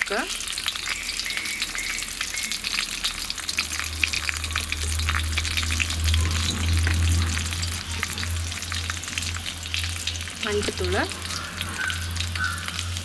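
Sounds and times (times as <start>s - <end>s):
hot oil sizzling and crackling: 0.0s - 13.0s
low rumble: 2.6s - 13.0s.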